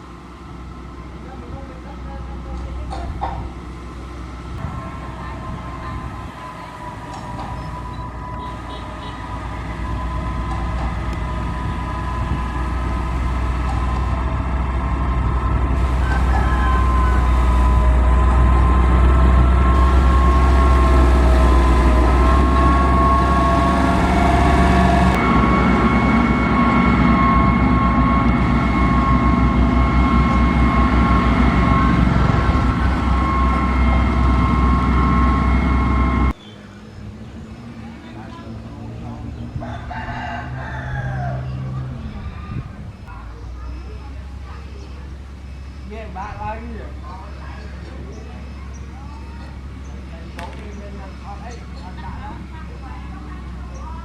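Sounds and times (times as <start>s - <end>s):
motor grader engine rumble: 0.0s - 54.0s.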